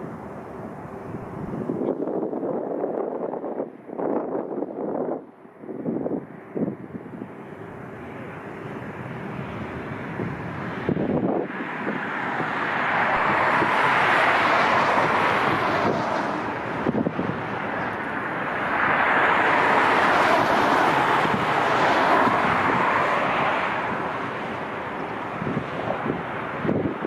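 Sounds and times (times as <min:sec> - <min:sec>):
wind buffeting microphone: 0:00.0 - 0:27.0
jet engine roar: 0:04.5 - 0:27.0.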